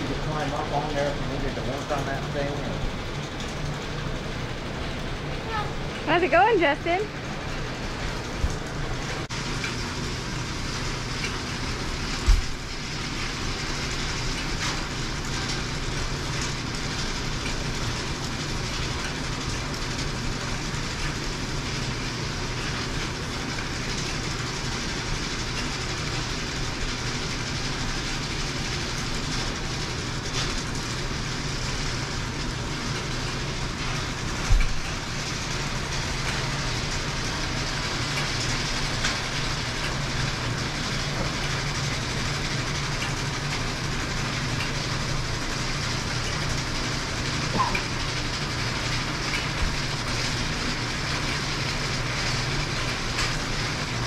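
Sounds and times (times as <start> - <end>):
low motor hum: 0.0 - 54.0.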